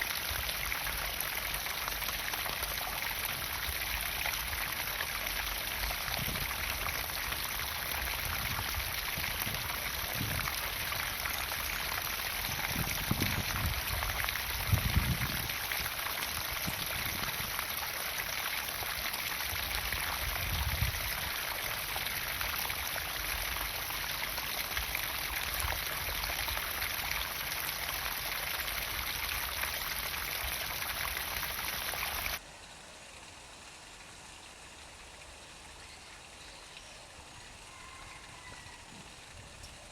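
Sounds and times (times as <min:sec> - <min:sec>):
water pouring into a pond: 0:00.0 - 0:39.9.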